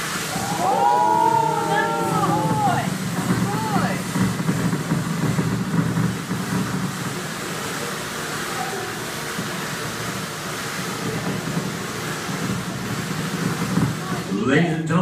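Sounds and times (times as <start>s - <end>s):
tesla coil arcs buzzing: 0.0s - 14.4s.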